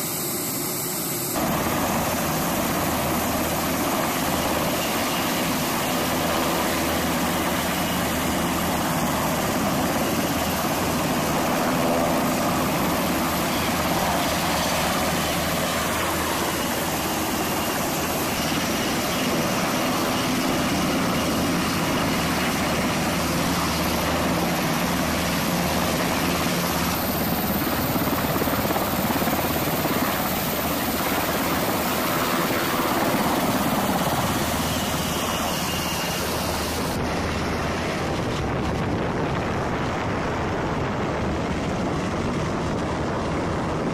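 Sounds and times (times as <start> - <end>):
helicopter rotors and engines: 0.0 - 43.9.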